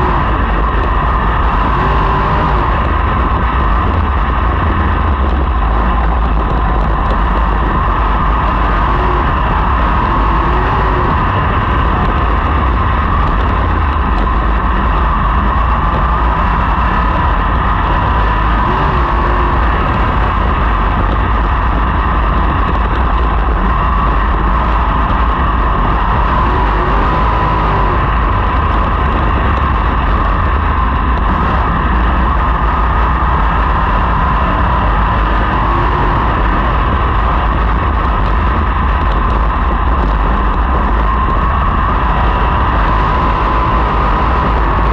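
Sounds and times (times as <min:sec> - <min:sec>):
race car engines running hard: 0:00.0 - 0:44.9.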